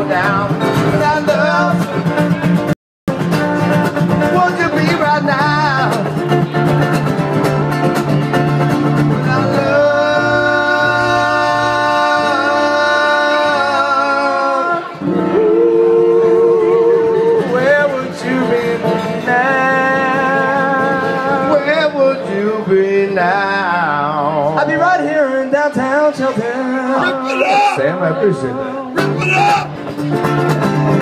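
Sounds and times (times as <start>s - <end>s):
man singing: 0.0s - 2.2s, 4.2s - 6.2s, 9.1s - 29.8s
acoustic guitars strumming: 0.0s - 31.0s.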